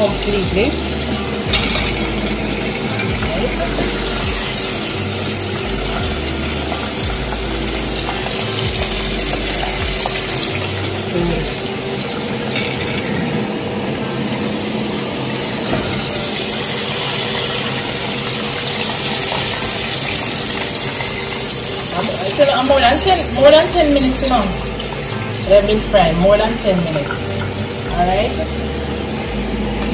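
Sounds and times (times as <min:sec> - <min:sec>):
chicken deep-frying in oil: 0:00.0 - 0:12.6, 0:13.4 - 0:29.9.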